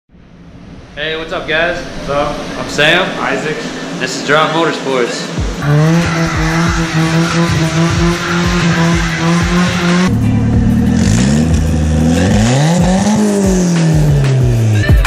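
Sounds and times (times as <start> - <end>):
car engine revving: 0.2 - 14.8.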